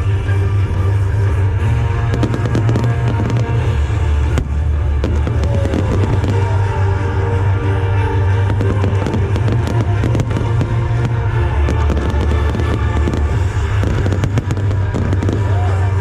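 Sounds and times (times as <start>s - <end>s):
show music with heavy bass: 0.0s - 16.0s
fireworks bursting and crackling: 0.7s - 16.0s.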